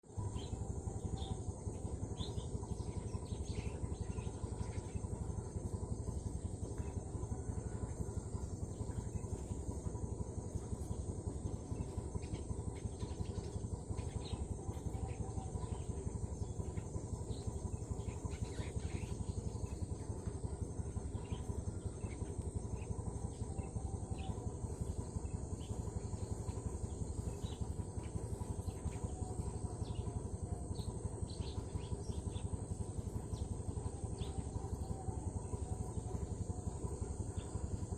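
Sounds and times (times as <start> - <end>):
sparrows chirping: 0.0 - 37.9
steady low hum: 0.0 - 37.9.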